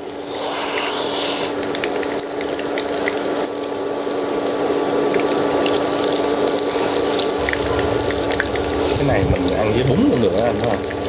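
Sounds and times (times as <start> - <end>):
steady low hum: 0.0 - 11.0
oil sizzling in a pan: 1.5 - 11.0.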